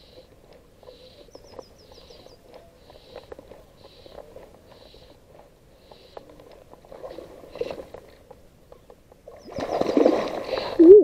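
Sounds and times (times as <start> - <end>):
bird calling softly: 0.0 - 6.8, 7.4 - 10.1.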